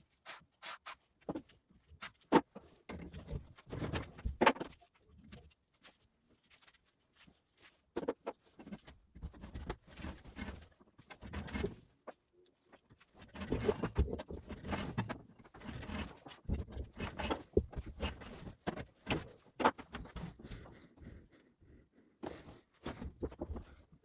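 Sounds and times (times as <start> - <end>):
wire rustling scraping and clicking: 0.2 - 20.4.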